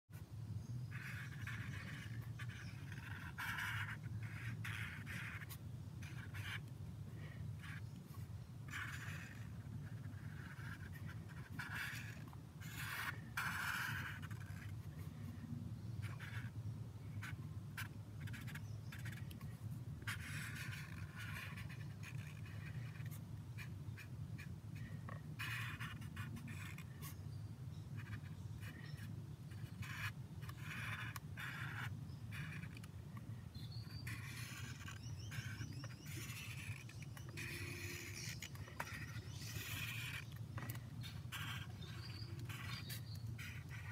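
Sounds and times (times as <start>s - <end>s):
marker scratching on paper: 0.9s - 43.9s.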